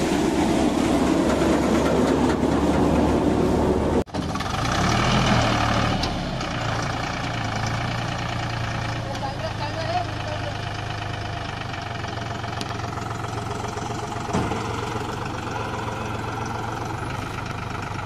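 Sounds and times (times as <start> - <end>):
tractor diesel engine humming: 0.0 - 18.0.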